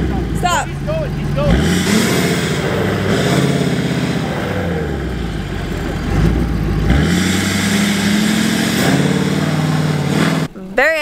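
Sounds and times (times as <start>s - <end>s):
truck engine revving: 0.0s - 10.6s.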